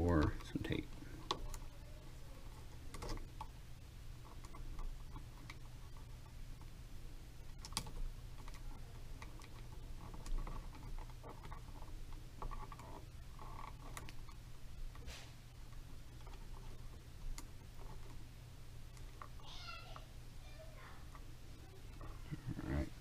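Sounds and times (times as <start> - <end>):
electrical wires clicking and rustling: 0.0 - 23.0.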